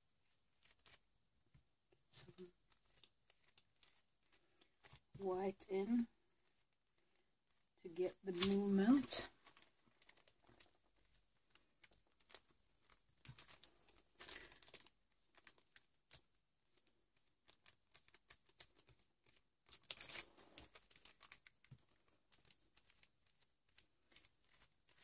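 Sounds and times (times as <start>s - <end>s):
hands rustling on paper: 0.0s - 25.0s.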